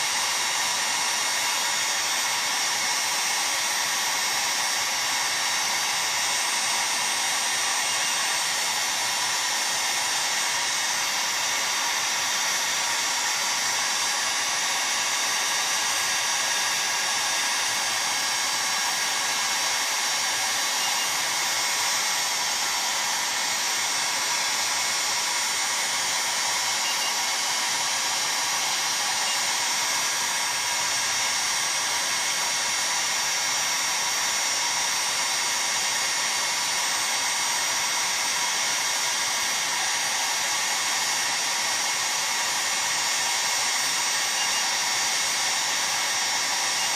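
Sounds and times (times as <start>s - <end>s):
heat gun blowing: 0.0s - 46.9s.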